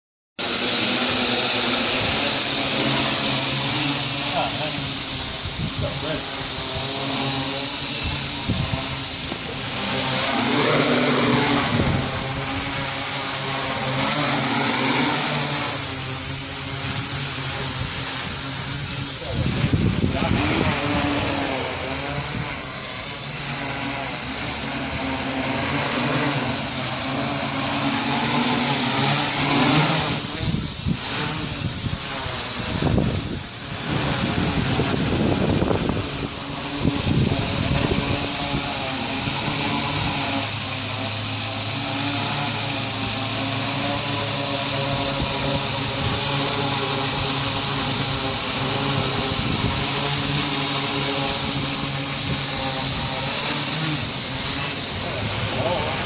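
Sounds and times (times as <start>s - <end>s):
drone propellers buzzing: 0.4s - 56.0s.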